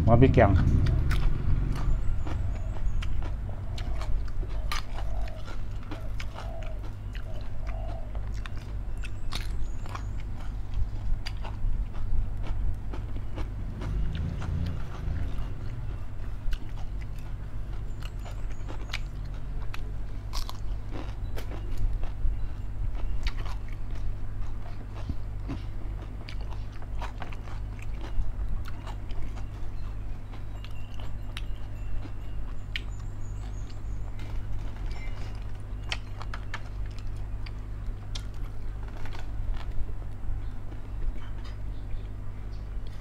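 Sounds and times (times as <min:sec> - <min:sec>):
steady low hum: 0:00.0 - 0:43.0
person chewing crunchy food: 0:00.7 - 0:43.0.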